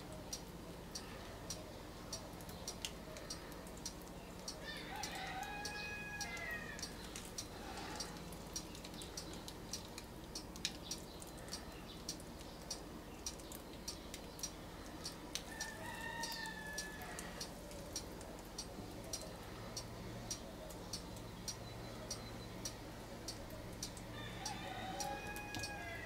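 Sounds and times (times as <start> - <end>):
light ticking: 0.1 - 25.8.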